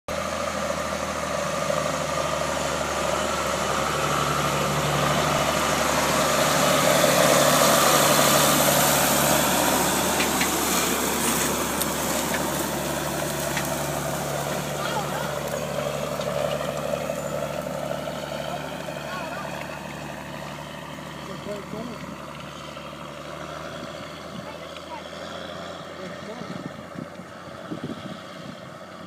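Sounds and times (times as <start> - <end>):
tractor diesel engine: 0.0 - 29.0.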